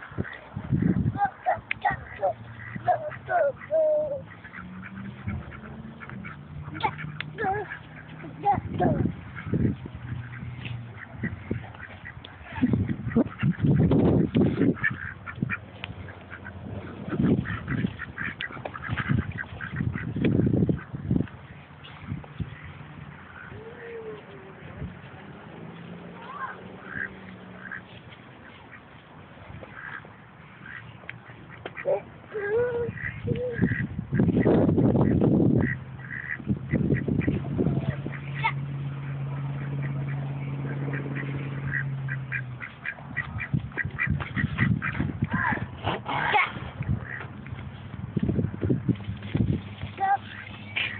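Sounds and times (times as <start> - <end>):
ducks quacking: 0.0 - 50.9
low rumbles: 0.0 - 50.9.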